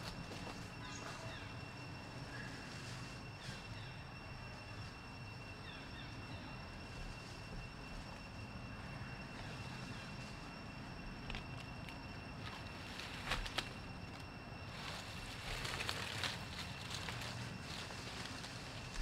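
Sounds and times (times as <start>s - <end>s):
high-pitched whines: 0.0s - 19.0s.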